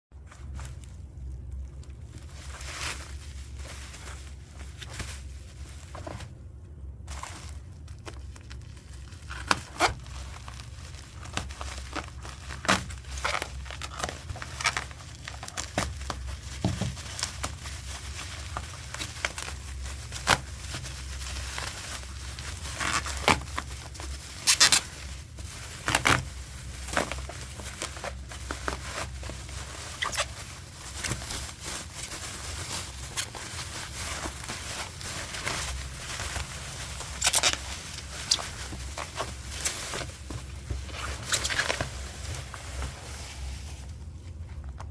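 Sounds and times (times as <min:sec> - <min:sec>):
low steady hum: 0:00.1 - 0:44.9
plastic wrap and paper crinkling: 0:00.2 - 0:44.9.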